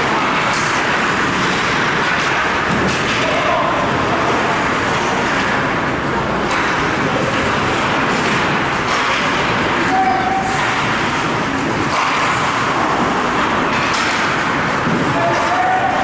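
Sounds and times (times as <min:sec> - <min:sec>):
ice hockey game background noise: 0:00.0 - 0:16.0.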